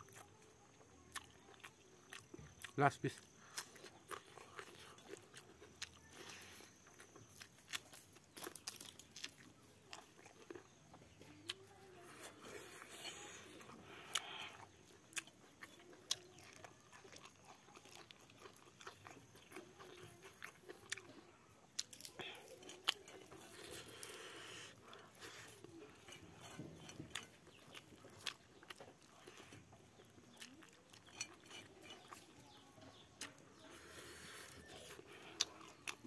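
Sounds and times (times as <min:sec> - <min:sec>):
chewing and lip-smacking: 0:00.0 - 0:36.0.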